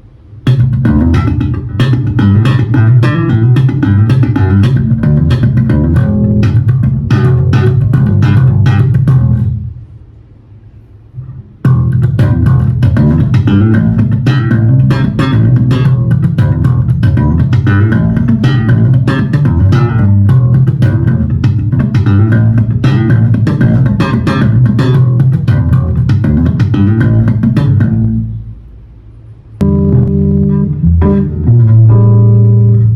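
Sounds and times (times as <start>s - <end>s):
electric bass guitar plucked notes: 0.4s - 9.9s, 11.2s - 28.7s, 29.6s - 32.9s.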